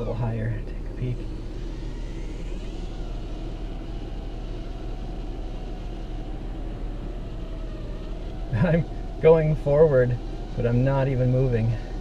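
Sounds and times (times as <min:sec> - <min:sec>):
faint steady whine: 0:00.0 - 0:12.0
wind buffeting a car: 0:00.0 - 0:12.0.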